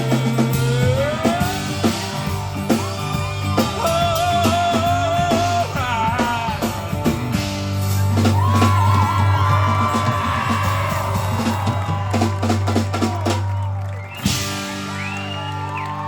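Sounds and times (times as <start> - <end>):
bass guitar: 0.0 - 16.0
drums: 0.0 - 16.0.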